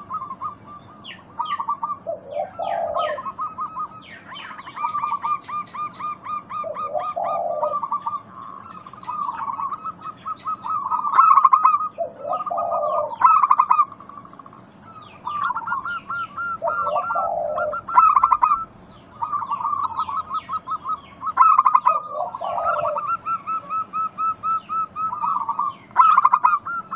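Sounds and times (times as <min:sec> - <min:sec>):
doves cooing: 0:00.0 - 0:26.9.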